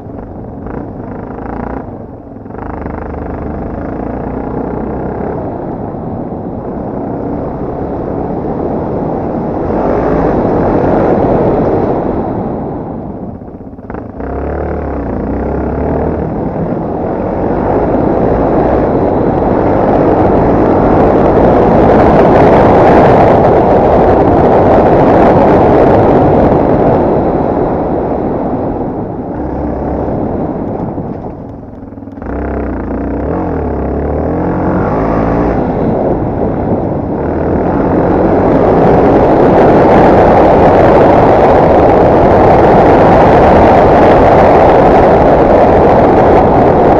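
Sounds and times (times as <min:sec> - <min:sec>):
dense rushing noise: 0:00.0 - 0:46.9
motorcycle engine running hard: 0:00.0 - 0:46.9.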